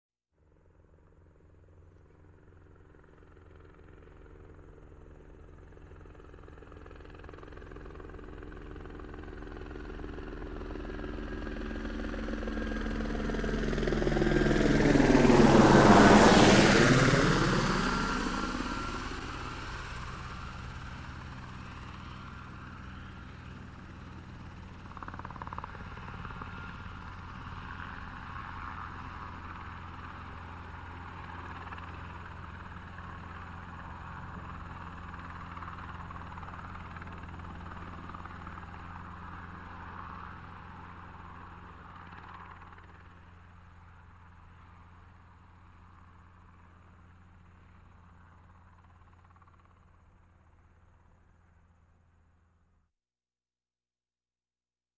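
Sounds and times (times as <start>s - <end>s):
helicopter flying: 0.5s - 52.4s.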